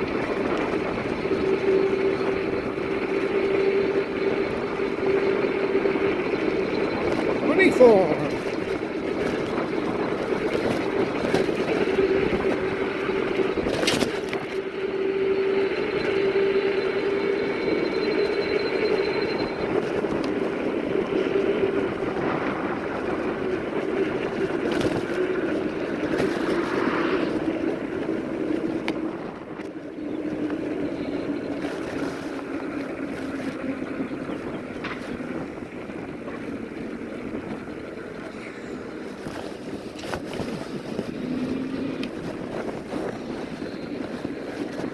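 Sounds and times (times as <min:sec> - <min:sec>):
electric bike motor hum: 0:00.0 - 0:44.9
wind noise on microphone: 0:00.0 - 0:44.9.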